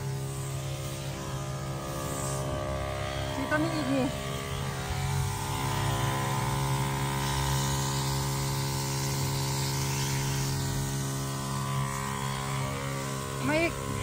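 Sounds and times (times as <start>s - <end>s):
nozzle hissing mist: 0.0s - 14.0s
sprayer pump motor humming: 0.0s - 14.0s.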